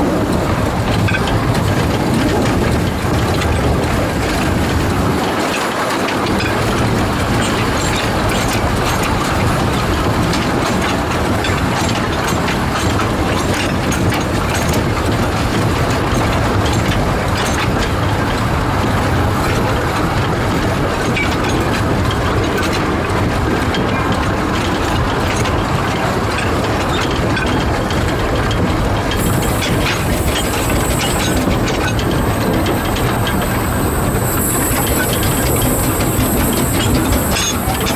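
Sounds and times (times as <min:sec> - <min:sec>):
train wheels rumbling on track: 0:00.0 - 0:37.9.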